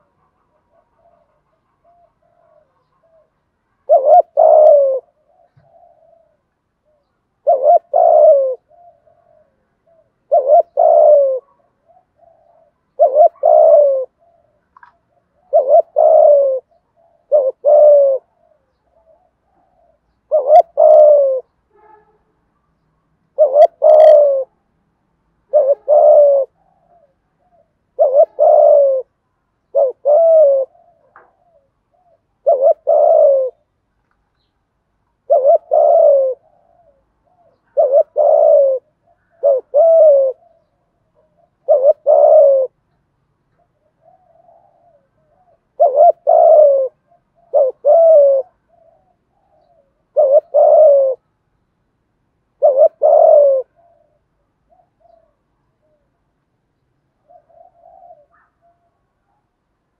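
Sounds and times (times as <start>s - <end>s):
dove cooing: 0.0s - 22.0s, 23.3s - 24.7s, 25.4s - 33.8s, 35.2s - 42.8s, 43.4s - 51.3s, 52.5s - 56.3s, 57.1s - 59.6s.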